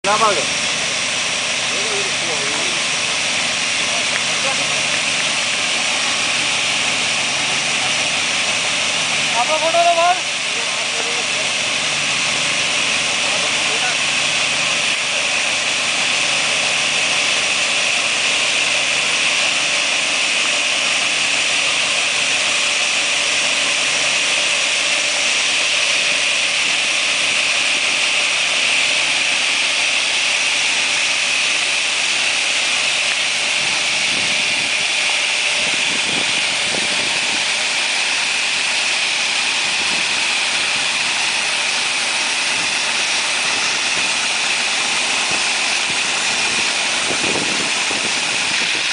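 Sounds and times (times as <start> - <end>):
tractor engine running: 0.0 - 48.9
spray nozzles hissing: 0.1 - 48.9.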